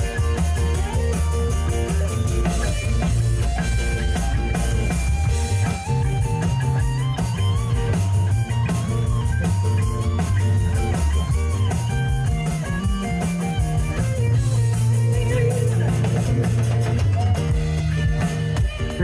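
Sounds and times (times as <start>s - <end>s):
bass: 0.0s - 19.0s
drums: 0.0s - 19.0s
electric guitar lead bending notes: 0.0s - 19.0s.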